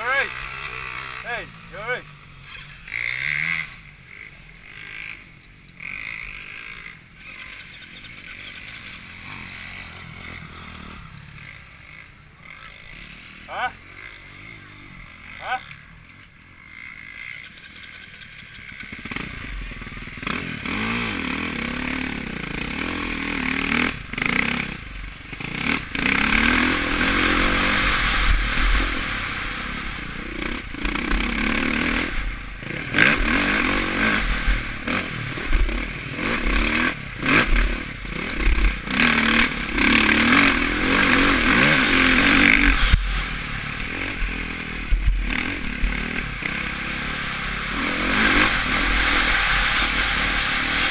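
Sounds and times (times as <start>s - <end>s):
motocross engine revving: 0.0s - 50.9s.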